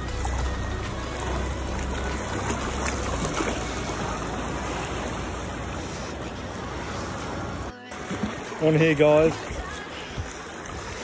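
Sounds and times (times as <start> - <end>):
small waves lapping against rocks: 0.0 - 11.0.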